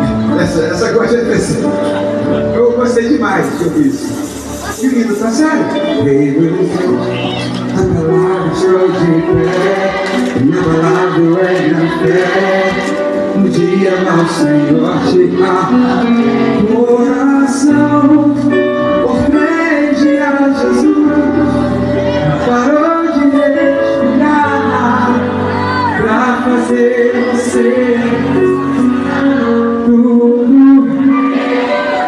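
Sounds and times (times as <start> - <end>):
live gospel band with singing: 0.0 - 32.0.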